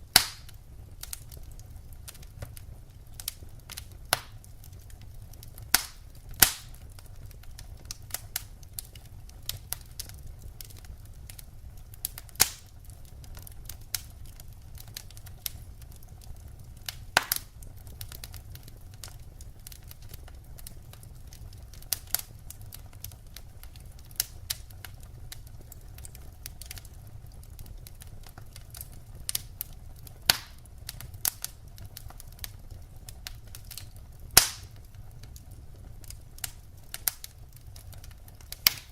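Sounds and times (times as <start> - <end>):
firewood crackling and popping: 0.0 - 38.9
low fire rumble: 0.0 - 38.9.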